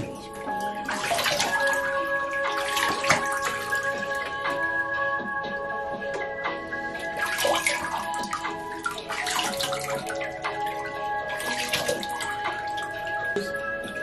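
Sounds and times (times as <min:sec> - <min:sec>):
bathwater splashing: 0:00.0 - 0:14.0
music with held notes: 0:00.0 - 0:14.0.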